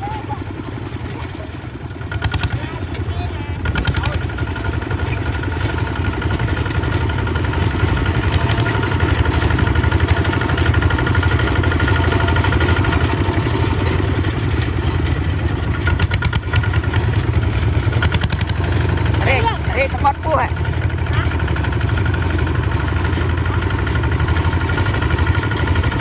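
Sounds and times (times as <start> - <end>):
rattling: 0.0 - 26.0
tractor engine chugging: 0.0 - 26.0.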